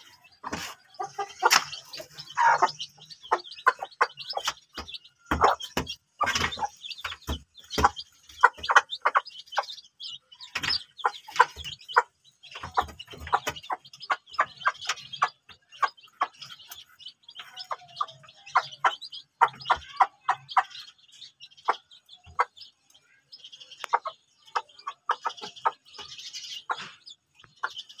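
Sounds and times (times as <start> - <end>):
chicks chirping: 0.0 - 28.0.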